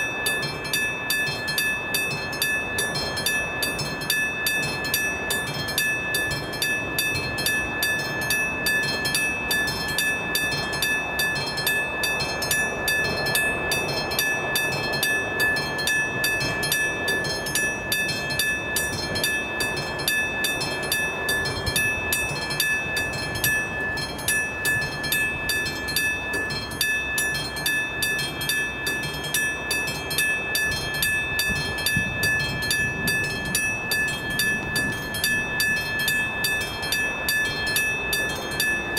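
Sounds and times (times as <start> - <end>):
level crossing bell ringing: 0.0 - 38.9.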